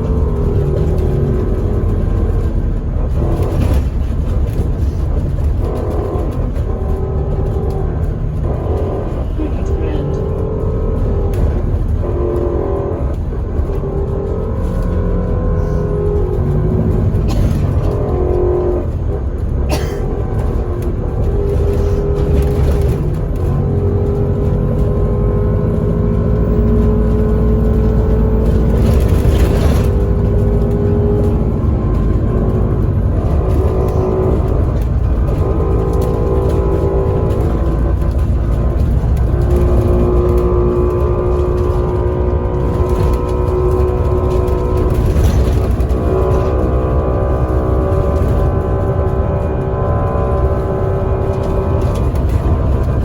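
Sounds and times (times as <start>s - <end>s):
bus engine and road noise: 0.0s - 53.0s.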